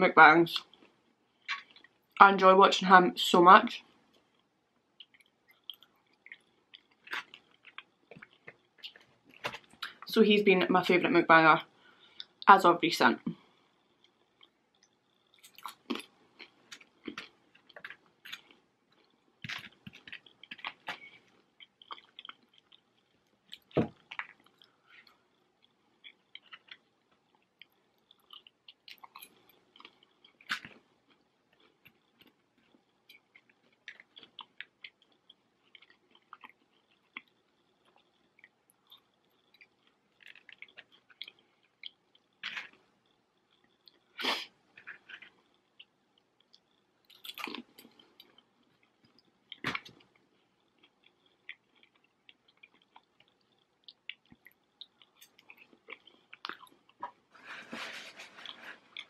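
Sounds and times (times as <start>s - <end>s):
close-up chewing and crunching: 4.0s - 10.1s, 13.6s - 59.0s.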